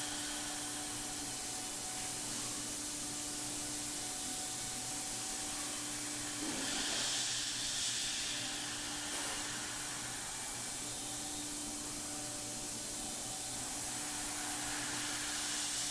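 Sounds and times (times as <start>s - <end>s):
cnc router machining: 0.0s - 15.9s.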